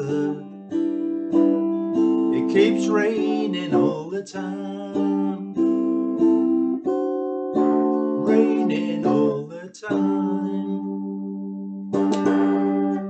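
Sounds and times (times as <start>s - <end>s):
ukulele strumming: 0.0s - 13.0s.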